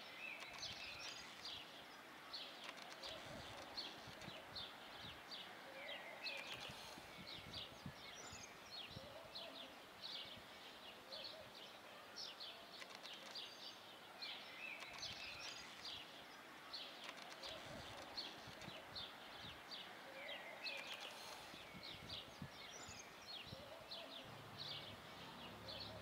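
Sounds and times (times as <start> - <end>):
faint background noise: 0.0 - 26.0
small birds chirping: 0.0 - 26.0.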